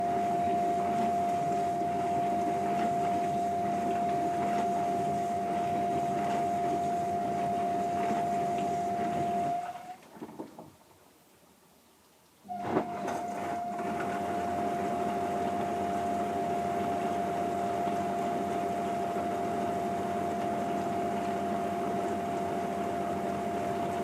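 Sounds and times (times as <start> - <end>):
dishwasher running: 0.0 - 10.0, 12.5 - 24.0.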